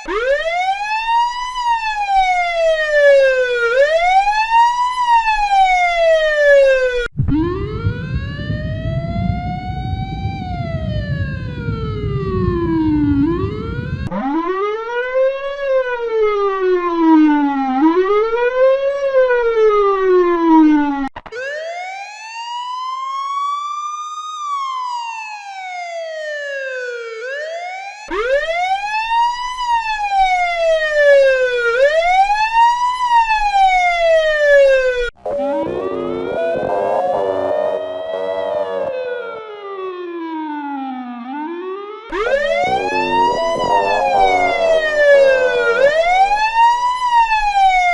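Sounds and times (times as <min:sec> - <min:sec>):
police siren wailing: 0:00.0 - 0:23.6, 0:24.3 - 0:47.9.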